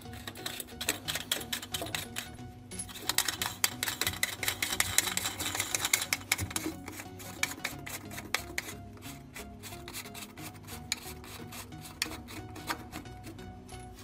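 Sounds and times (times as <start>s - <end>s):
faint music: 0.0s - 14.0s
mounting nut clicking and scraping: 0.0s - 14.0s.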